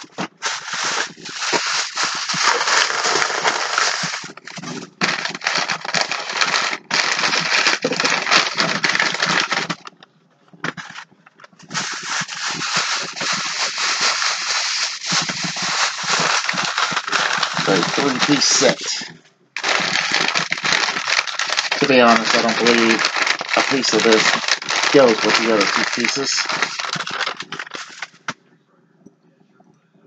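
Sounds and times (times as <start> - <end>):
plastic bag crinkling: 0.0 - 10.0, 10.6 - 28.4.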